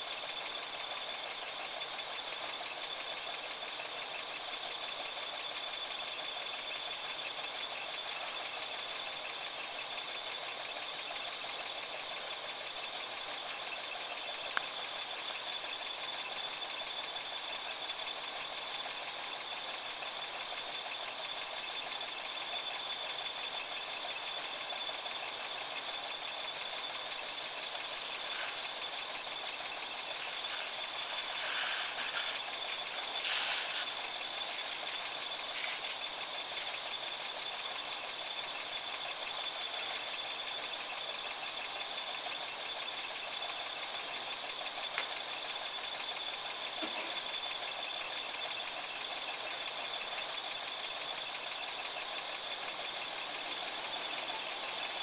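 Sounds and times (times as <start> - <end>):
engine running at low revs: 0.1 - 55.0.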